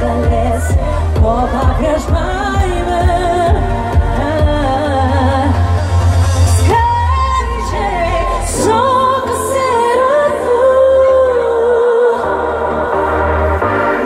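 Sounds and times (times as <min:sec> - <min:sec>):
woman singing: 0:00.0 - 0:05.9, 0:06.5 - 0:13.1
backing track with heavy bass beat: 0:00.0 - 0:11.4, 0:12.2 - 0:14.0.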